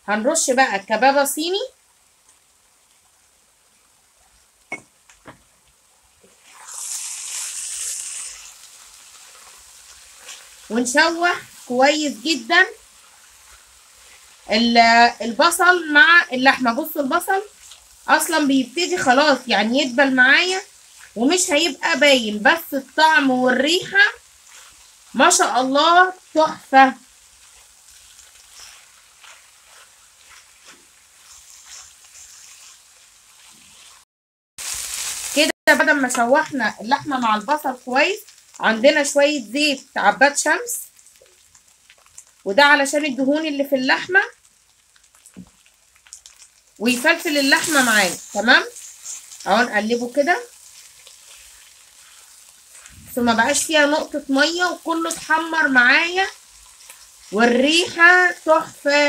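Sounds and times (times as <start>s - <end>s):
food sizzling: 0.0s - 59.0s
spatula stirring in frying pan: 4.1s - 34.0s, 34.6s - 39.7s, 40.9s - 42.4s, 44.4s - 59.0s.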